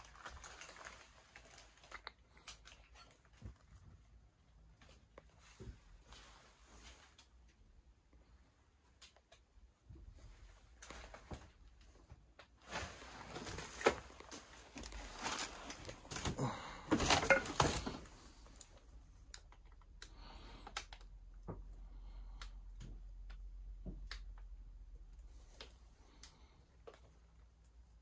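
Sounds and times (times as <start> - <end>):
rustling and crackling: 0.0 - 28.0.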